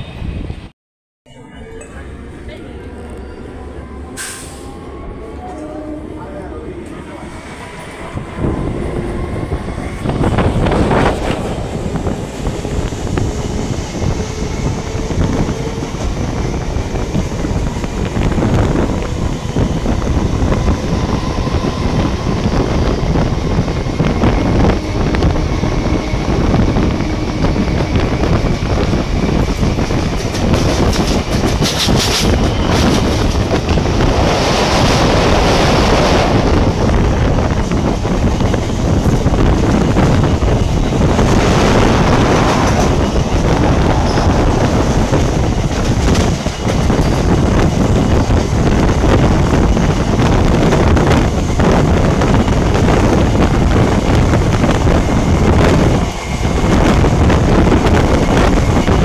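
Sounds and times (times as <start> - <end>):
wind buffeting microphone: 1.4 - 59.0
train wheels clattering on rails: 9.6 - 59.0.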